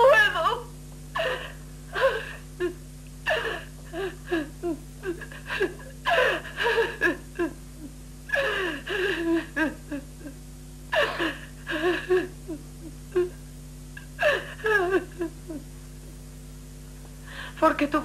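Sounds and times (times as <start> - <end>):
woman sobbing: 0.0 - 13.4, 14.0 - 15.7
steady low hum: 0.0 - 18.0.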